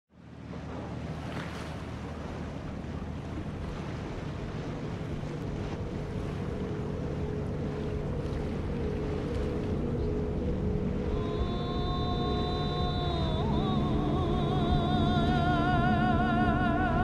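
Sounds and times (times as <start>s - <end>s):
motorboat engine drone: 0.1s - 17.0s
water and wind rushing: 0.1s - 17.0s.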